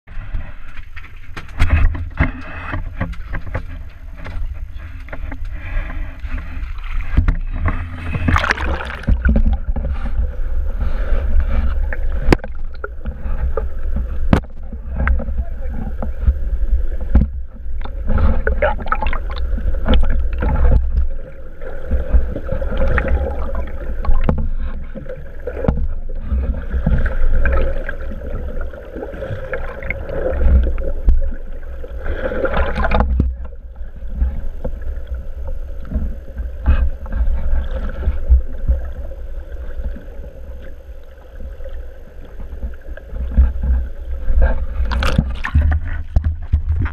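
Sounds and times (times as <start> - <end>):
low rumble: 0.1 - 46.9
muffled water sloshing underwater: 0.1 - 46.9.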